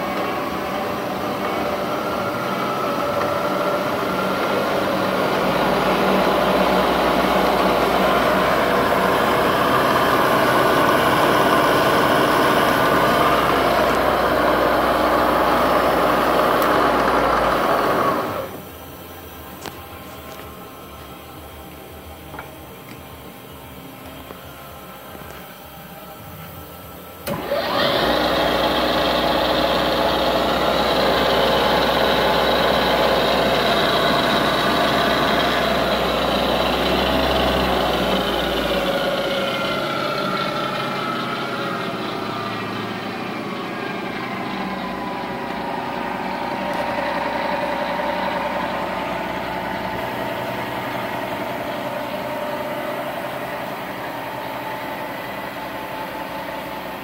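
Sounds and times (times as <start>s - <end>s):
milling machine motor whine: 0.0s - 57.0s.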